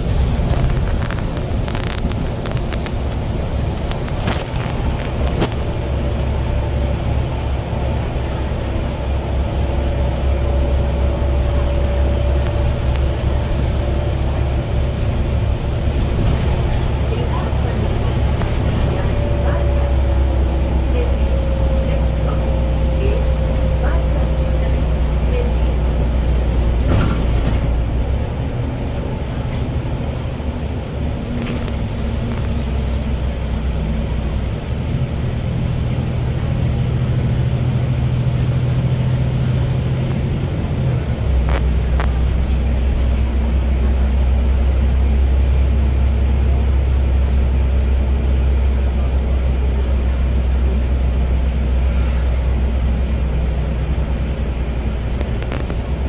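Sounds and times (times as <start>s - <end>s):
bus engine: 0.0s - 56.0s
road noise: 0.0s - 56.0s.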